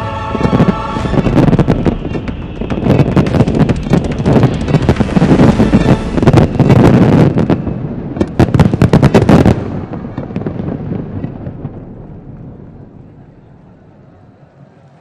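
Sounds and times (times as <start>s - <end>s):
fireworks bangs and crackles: 0.0s - 13.6s
faint fireworks pops: 0.4s - 13.4s.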